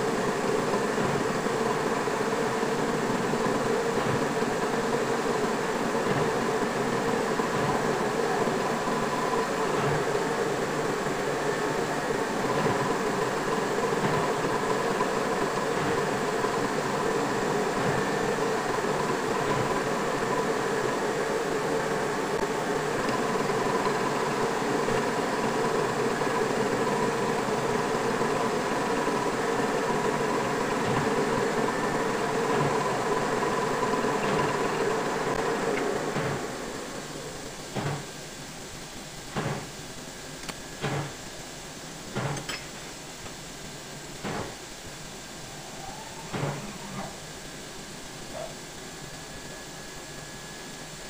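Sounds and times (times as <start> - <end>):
metal lathe humming and whining: 0.0 - 42.6, 43.5 - 51.0.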